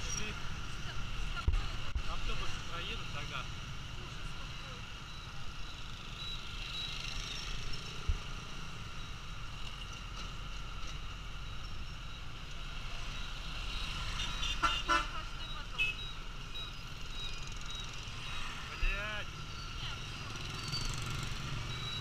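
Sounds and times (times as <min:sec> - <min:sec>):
cars and buses passing: 0:00.0 - 0:22.0
scooter and motorbike engines: 0:00.0 - 0:22.0.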